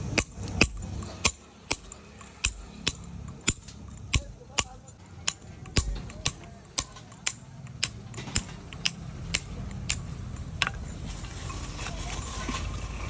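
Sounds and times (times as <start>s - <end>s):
hammer striking chisel on stone: 0.0s - 11.0s.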